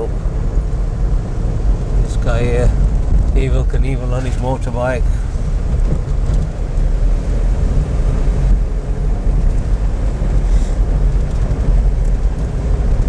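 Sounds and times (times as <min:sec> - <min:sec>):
car engine and tyres rumbling: 0:00.0 - 0:13.0
wind buffeting microphone: 0:00.0 - 0:13.0.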